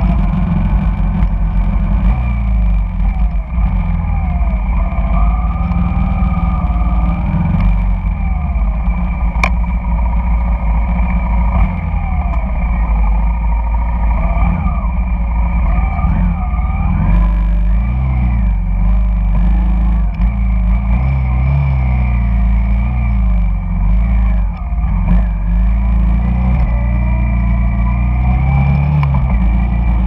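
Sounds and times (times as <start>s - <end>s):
motorcycle engine at low speed: 0.0s - 30.0s
traffic engines: 0.0s - 30.0s.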